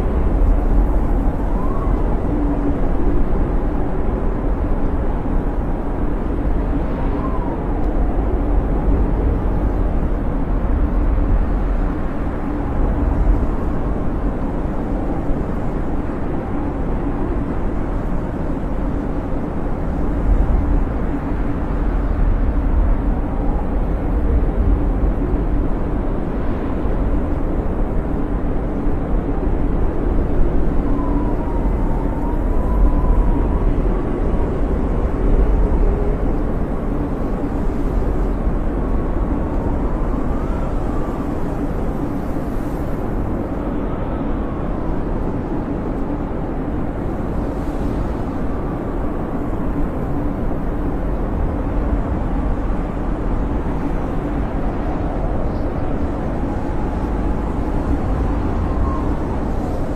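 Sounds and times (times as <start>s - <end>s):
wind blowing with whistle: 0.0s - 59.9s.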